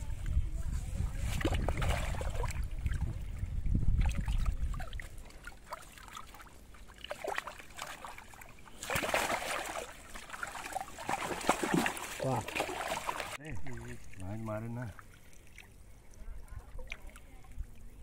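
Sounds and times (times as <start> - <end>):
water splashing: 1.0 - 18.0
water sloshing and dripping: 1.1 - 18.0.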